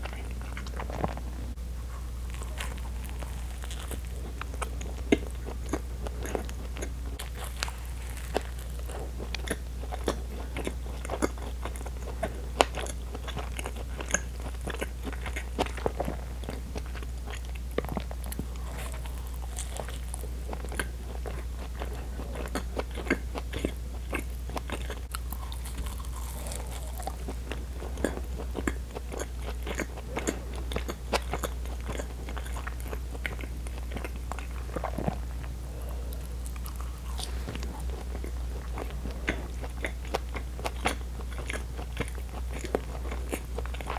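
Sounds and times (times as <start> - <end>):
chewing soft bread: 0.0 - 43.9
steady low hum: 0.0 - 43.9.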